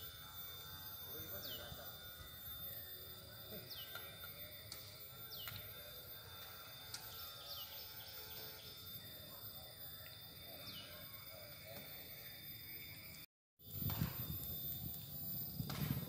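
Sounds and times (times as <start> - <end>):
bird trill: 0.0 - 13.2.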